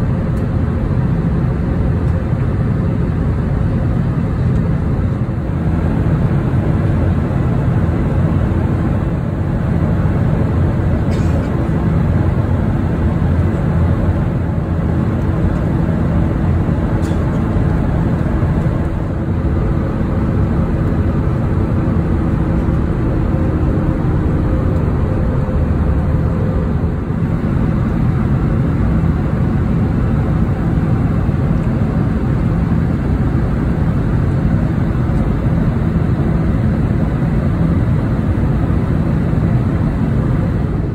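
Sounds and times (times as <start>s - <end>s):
aircraft cabin rumble: 0.0s - 40.9s.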